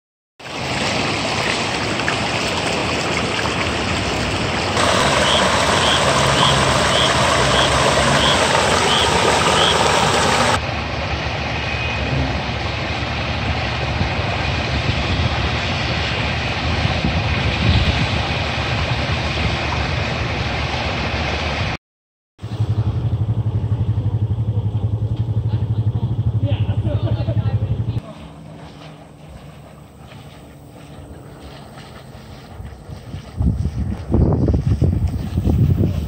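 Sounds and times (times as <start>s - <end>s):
vehicle engine noise: 0.5s - 21.8s, 22.4s - 36.0s.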